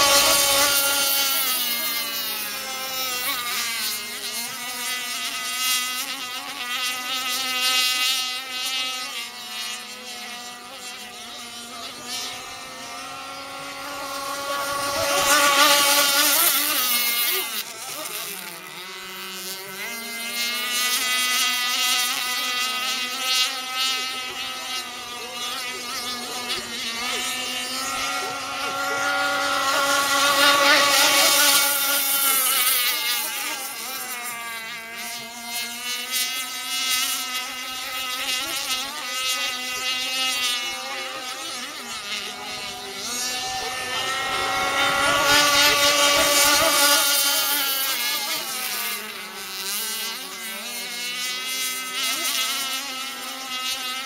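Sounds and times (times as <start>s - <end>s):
racing boat engine passing: 0.0s - 54.0s.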